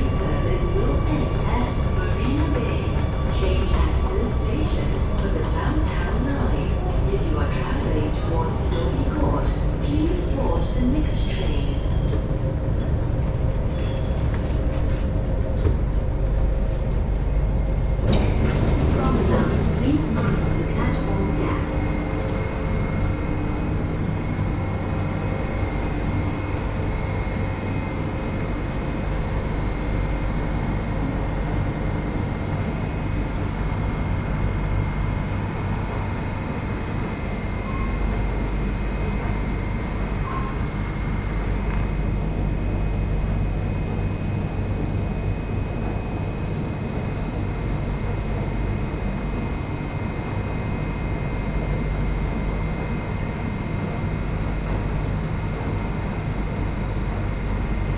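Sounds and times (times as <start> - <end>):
train equipment humming: 0.0 - 57.9.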